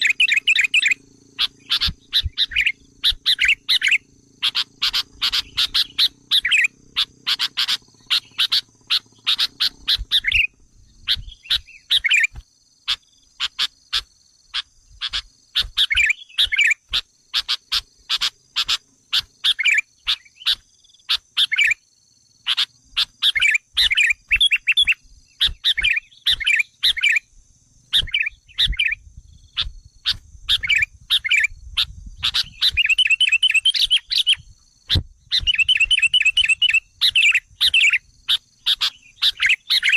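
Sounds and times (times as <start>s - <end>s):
bulbuls chirping: 0.0s - 21.8s, 22.4s - 39.9s.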